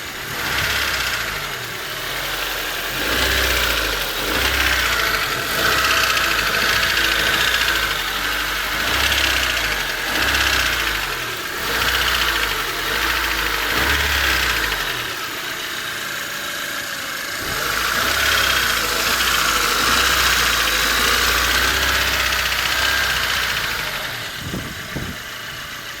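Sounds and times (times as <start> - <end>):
car engine running: 0.0 - 26.0
engine ticking: 0.0 - 26.0.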